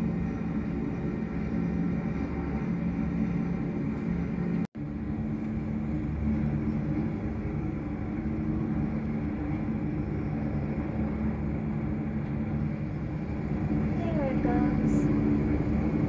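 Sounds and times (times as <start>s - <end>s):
distant helicopter rumble: 0.0s - 16.0s.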